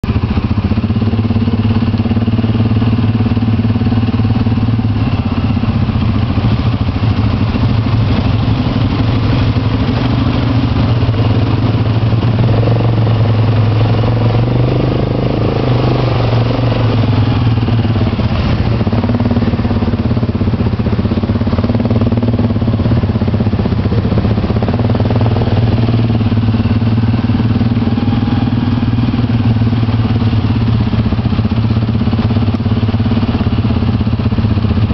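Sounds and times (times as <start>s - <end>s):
quad bike engine running: 0.0s - 34.9s.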